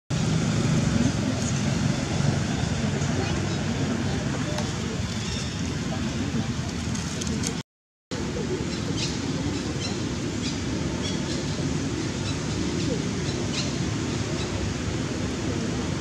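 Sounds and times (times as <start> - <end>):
rushing outdoor background noise: 0.1 - 16.0.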